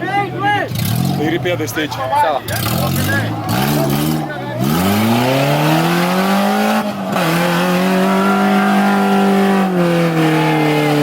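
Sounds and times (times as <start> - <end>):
engine revving hard: 0.7 - 1.8, 2.5 - 11.0.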